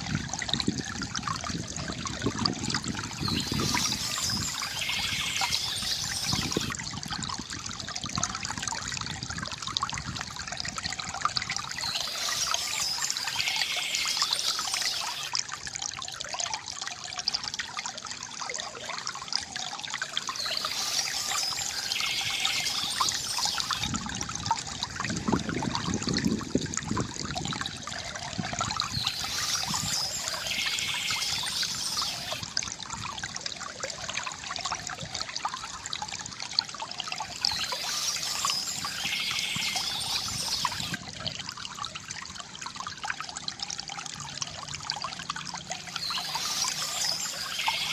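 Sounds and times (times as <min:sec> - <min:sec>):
bright high water sound: 0:00.0 - 0:47.9
fountain water trickling: 0:00.0 - 0:47.9.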